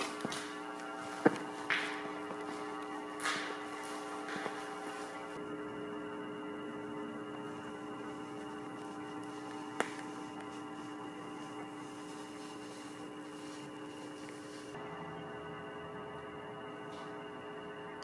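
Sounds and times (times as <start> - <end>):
steady hum of held tones: 0.0 - 18.0.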